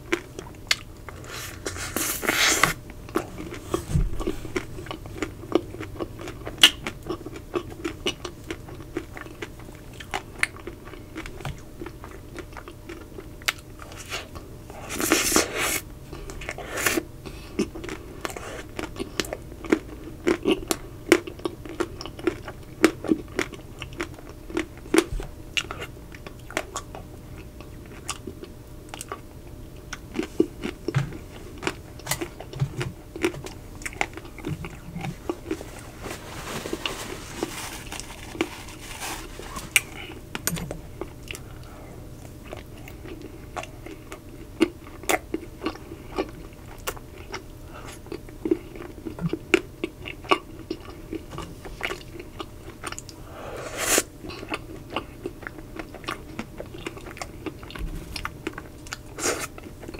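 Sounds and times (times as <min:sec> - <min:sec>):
chewing with crackling clicks: 0:00.0 - 0:01.2, 0:04.2 - 0:14.5, 0:17.2 - 0:35.6, 0:39.7 - 0:53.2, 0:54.2 - 0:59.9.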